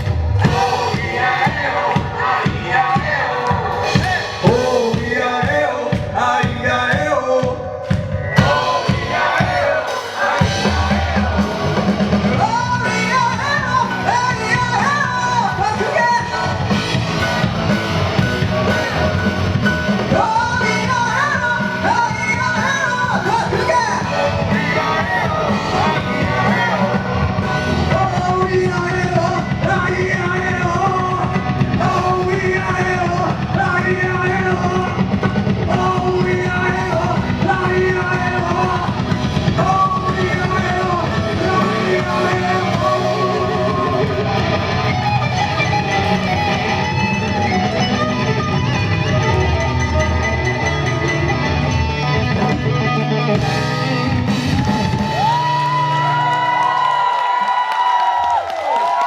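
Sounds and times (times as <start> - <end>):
person singing: 0.0 - 56.9
live rock band playing: 0.0 - 57.5.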